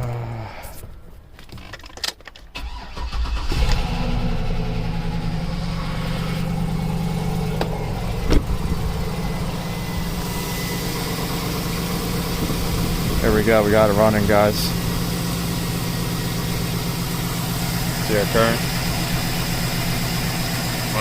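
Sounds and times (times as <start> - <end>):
car engine cranking and idling: 0.0 - 21.0.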